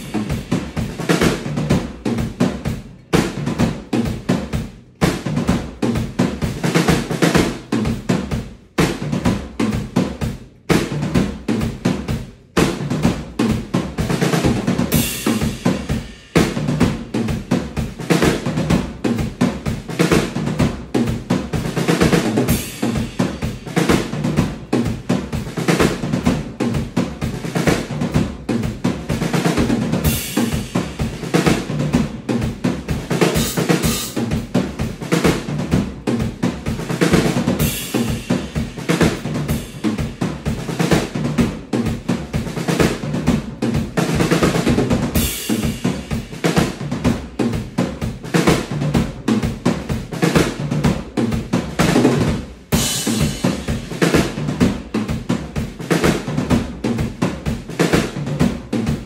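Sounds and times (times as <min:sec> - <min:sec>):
drum kit groove: 0:00.0 - 0:59.0.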